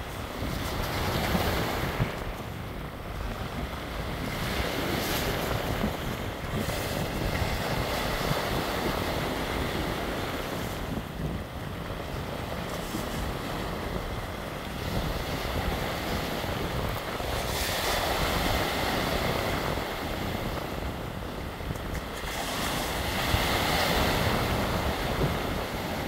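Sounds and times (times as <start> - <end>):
waves breaking on rocky shore: 0.0 - 26.0
wind rumble on microphone: 0.0 - 26.0.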